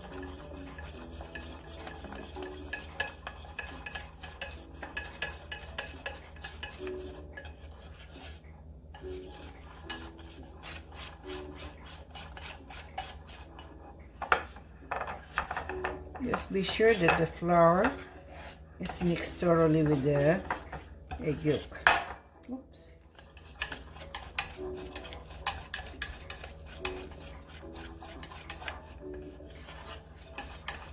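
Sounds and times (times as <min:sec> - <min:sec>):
utensil stirring batter in bowl: 0:00.0 - 0:22.1, 0:23.0 - 0:30.9.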